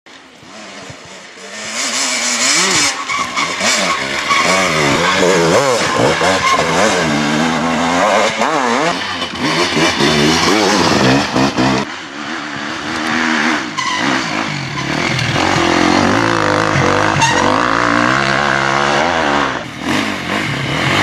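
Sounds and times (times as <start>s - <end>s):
motorcycle engine revving: 0.2s - 21.0s.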